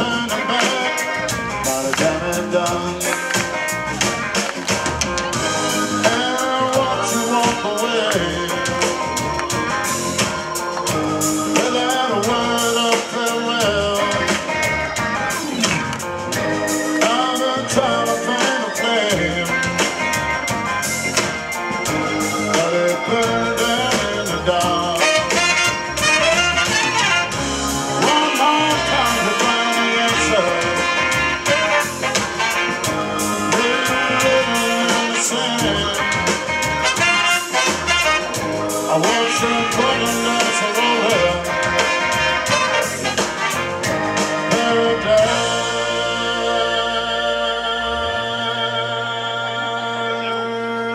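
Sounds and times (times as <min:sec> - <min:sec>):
trumpet and saxophone: 0:00.0 - 0:03.2, 0:05.2 - 0:50.9
electric guitar: 0:00.0 - 0:46.8
drums: 0:00.0 - 0:49.1
bass guitar: 0:00.0 - 0:50.9.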